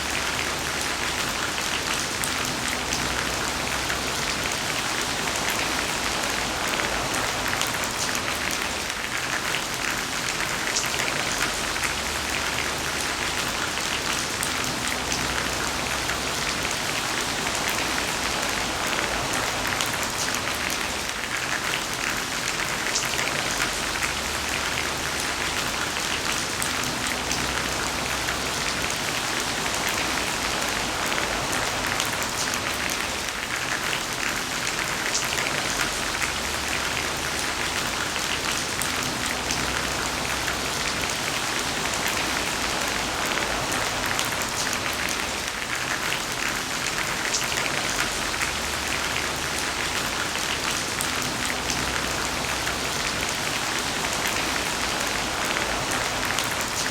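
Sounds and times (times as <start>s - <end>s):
heavy rain: 0.0s - 56.9s
rain spattering on hard surface: 0.0s - 56.9s.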